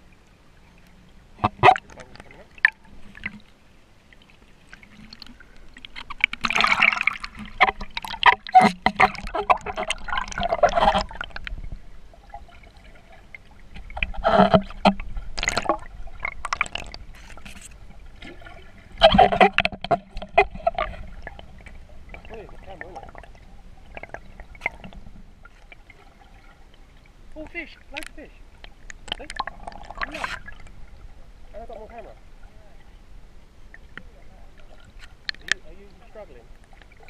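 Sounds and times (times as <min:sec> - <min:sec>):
crackly splashing: 0:00.0 - 0:33.0, 0:33.6 - 0:37.0
water bubbling and gurgling: 0:00.0 - 0:37.0.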